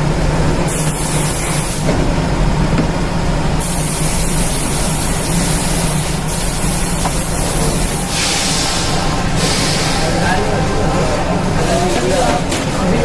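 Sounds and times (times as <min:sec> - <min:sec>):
machine running hum: 0:00.0 - 0:13.0.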